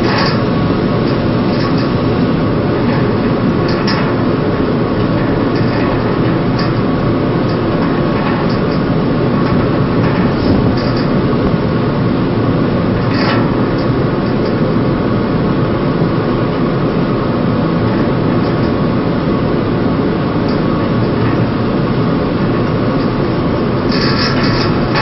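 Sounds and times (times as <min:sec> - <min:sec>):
ship engines rumbling: 0:00.0 - 0:25.0.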